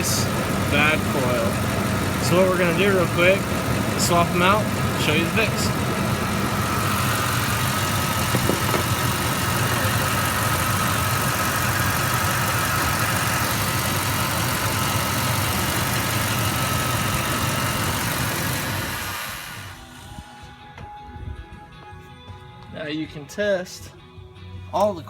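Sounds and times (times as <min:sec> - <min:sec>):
engine idling with misfire: 0:00.0 - 0:20.5.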